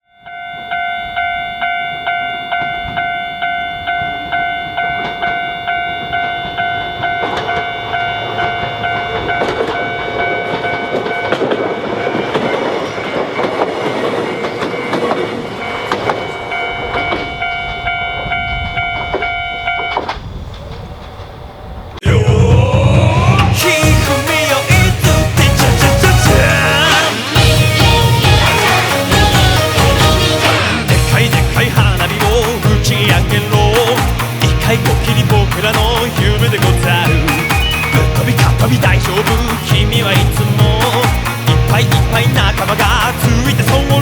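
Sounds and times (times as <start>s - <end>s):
level crossing bell ringing: 0.1s - 20.0s, 23.8s - 44.0s
train wheels clacking on rails: 1.1s - 21.4s, 22.9s - 44.0s.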